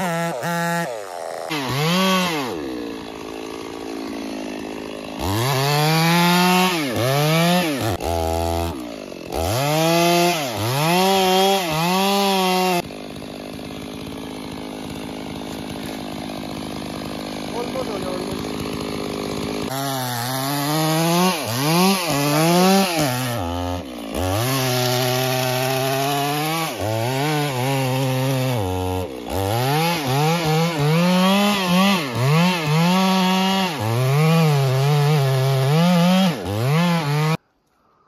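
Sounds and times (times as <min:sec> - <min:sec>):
chainsaw cutting wood: 0:00.0 - 0:37.8.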